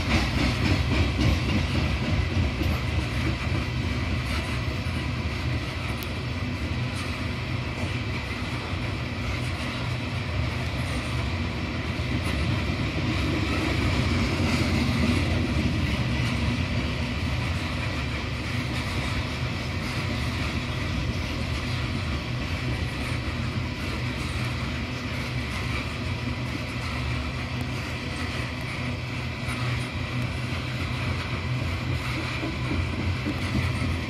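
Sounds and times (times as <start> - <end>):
freight train wheels on rail: 0.0 - 34.0.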